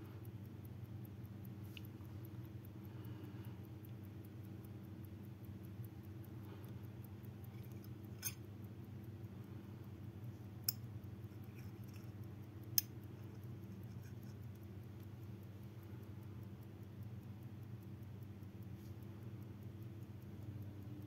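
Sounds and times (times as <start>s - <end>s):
pocket watch ticking: 0.0s - 21.0s
steady low hum: 0.0s - 21.0s.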